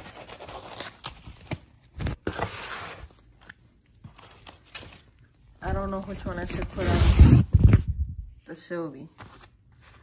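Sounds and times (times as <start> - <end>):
packing material rustling: 0.0 - 8.0.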